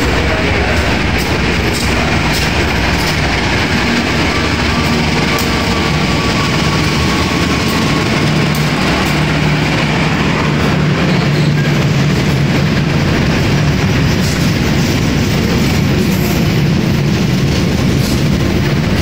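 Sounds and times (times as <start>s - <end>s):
locomotive engine rumble: 0.0s - 19.0s
wheels clacking over rails: 0.0s - 19.0s.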